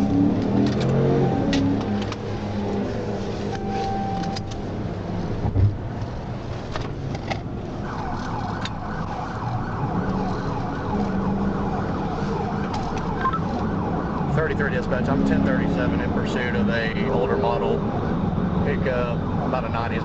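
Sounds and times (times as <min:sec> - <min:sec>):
police siren wailing: 0:00.0 - 0:04.9, 0:07.6 - 0:20.0
car engine and road noise: 0:00.0 - 0:20.0.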